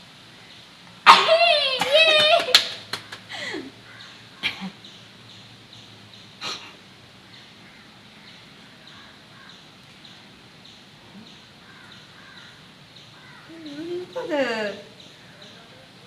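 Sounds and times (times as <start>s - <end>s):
low warbling bird calls: 3.0s - 16.0s.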